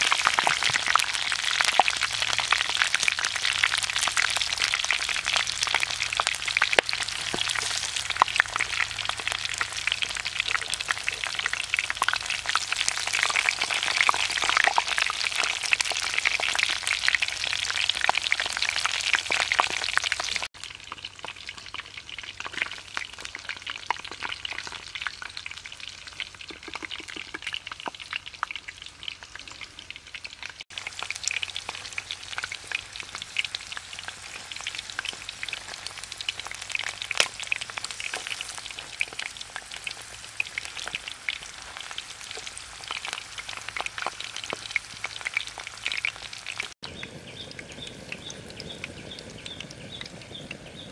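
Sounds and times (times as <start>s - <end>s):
hot oil sizzling and crackling: 0.0s - 50.9s.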